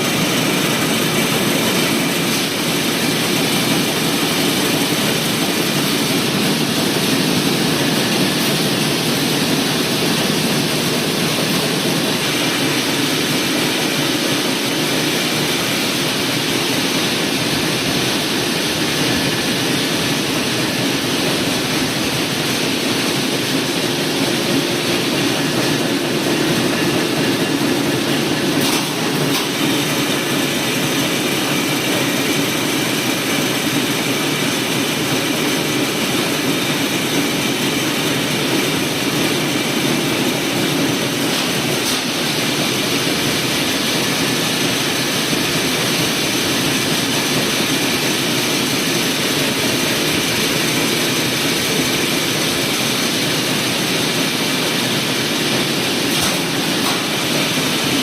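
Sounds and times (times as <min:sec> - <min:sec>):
machinery hissing and humming: 0:00.0 - 0:58.0.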